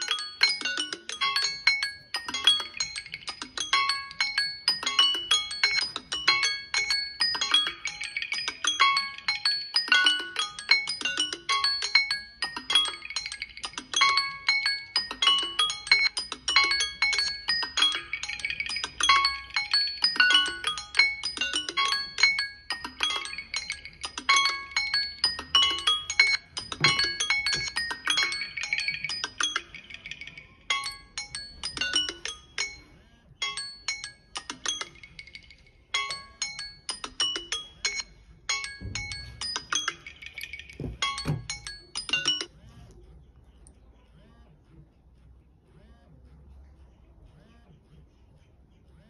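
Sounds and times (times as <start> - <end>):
smartphone alarm ringtones: 0.0 - 42.5.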